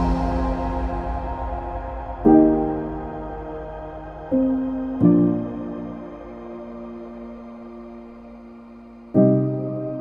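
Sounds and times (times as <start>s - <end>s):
soft ambient chords: 0.0s - 10.0s.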